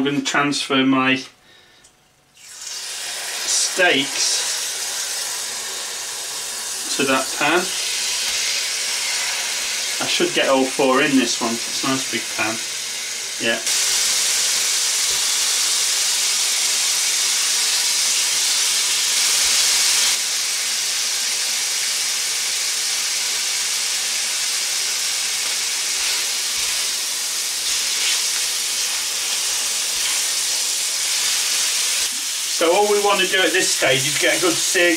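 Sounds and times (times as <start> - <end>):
meat sizzling in frying pan: 2.4 - 34.9.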